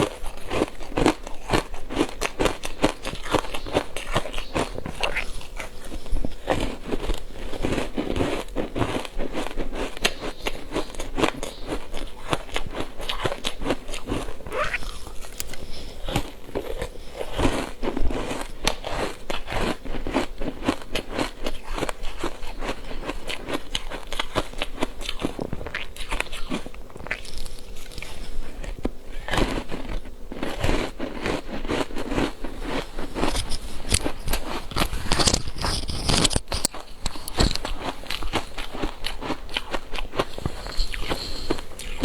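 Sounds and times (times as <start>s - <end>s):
person chewing ice: 0.0s - 42.0s.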